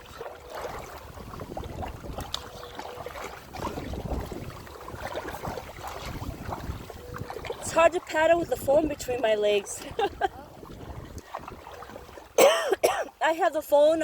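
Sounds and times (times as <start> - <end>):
water splashing against kayak: 0.0 - 14.0.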